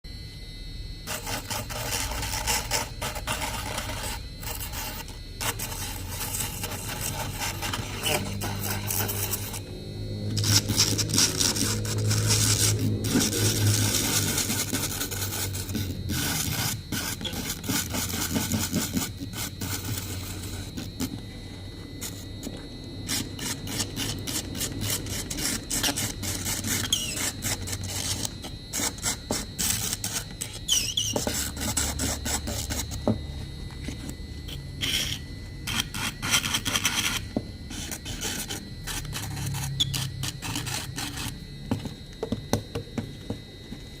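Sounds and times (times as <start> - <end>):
low hum: 0.1 - 44.0
carving tool scraping wood: 1.1 - 9.7, 10.3 - 21.3, 21.9 - 33.2, 33.9 - 41.4.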